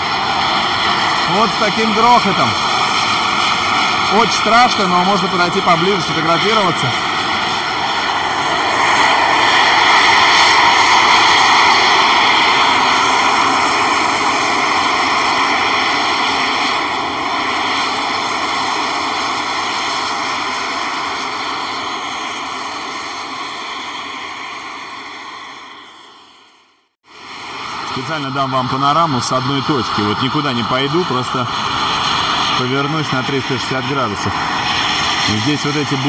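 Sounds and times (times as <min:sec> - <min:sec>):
steam vents roaring: 0:00.0 - 0:26.5, 0:27.1 - 0:36.0.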